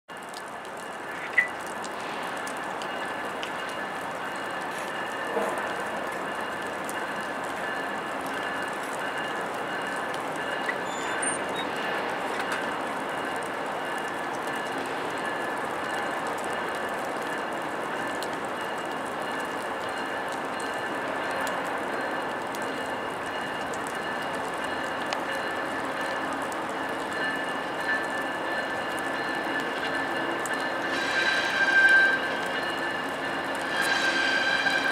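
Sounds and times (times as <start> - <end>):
diesel locomotive running: 0.1 - 34.9.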